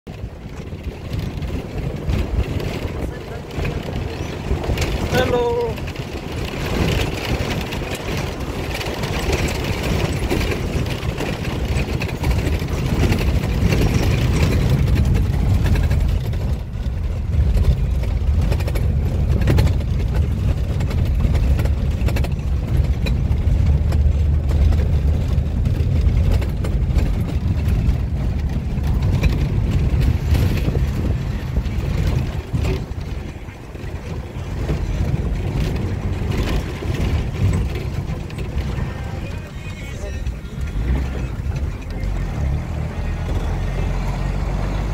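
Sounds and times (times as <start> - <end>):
vehicle engine and road rumble: 0.0 - 44.9
vehicle body rattling: 0.1 - 44.9.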